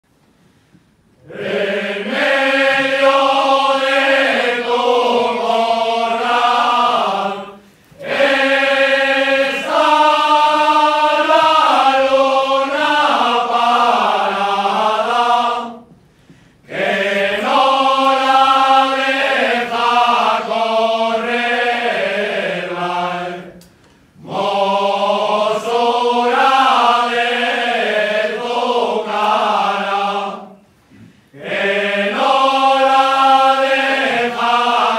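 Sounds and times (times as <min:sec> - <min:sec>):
men's folk choir singing: 0:01.2 - 0:16.0, 0:16.6 - 0:23.6, 0:24.2 - 0:34.9.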